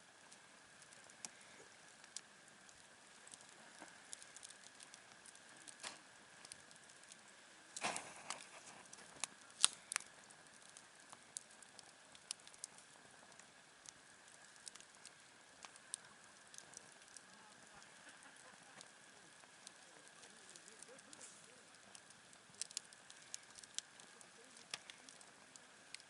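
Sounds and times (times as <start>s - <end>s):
campfire crackling: 0.0s - 26.0s
sharp pops and ticks: 0.2s - 26.0s.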